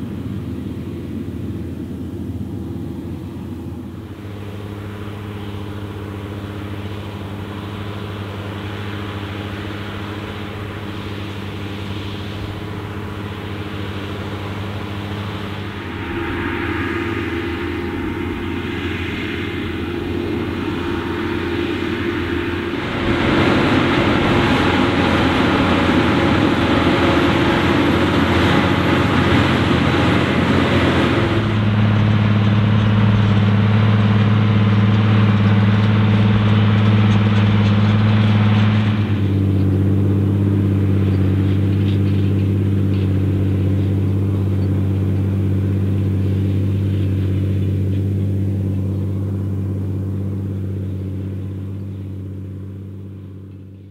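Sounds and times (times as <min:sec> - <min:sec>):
tractor engine droning: 0:00.0 - 0:53.9.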